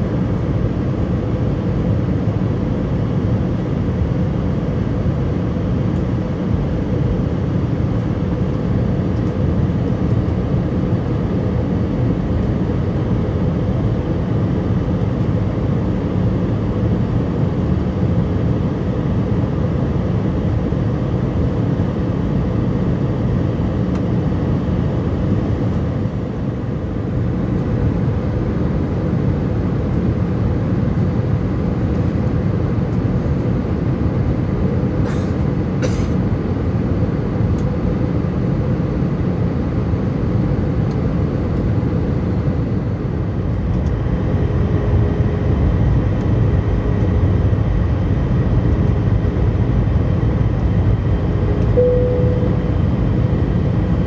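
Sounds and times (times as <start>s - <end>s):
jet engines low hum: 0.0s - 54.0s.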